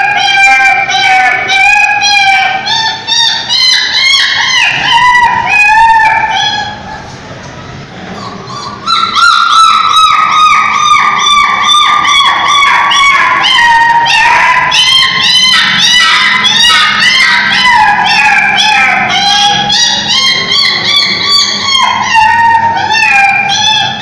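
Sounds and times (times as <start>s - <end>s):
puppy yelping: 0.0s - 7.1s, 8.0s - 24.0s.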